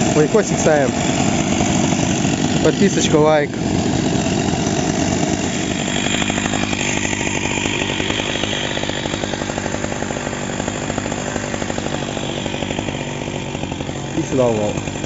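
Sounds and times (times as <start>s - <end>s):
chainsaw engine idling: 0.0s - 15.0s.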